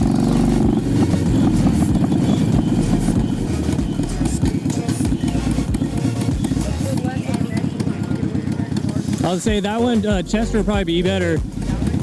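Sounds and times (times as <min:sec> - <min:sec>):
motorcycle engine pulsing: 0:00.0 - 0:12.0.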